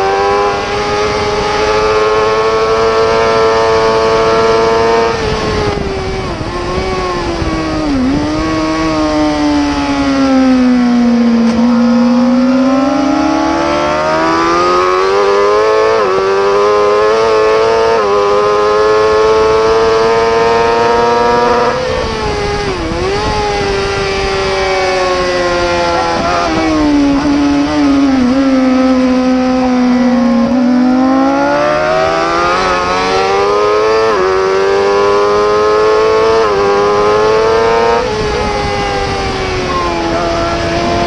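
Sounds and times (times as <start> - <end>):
racing motorcycle engine revving: 0.0 - 41.0.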